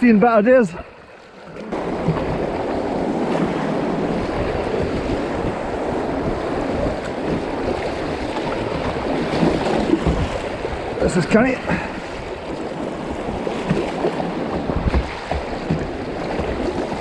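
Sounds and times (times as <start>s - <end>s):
river water rushing: 0.4s - 17.0s
wind buffeting microphone: 1.7s - 17.0s.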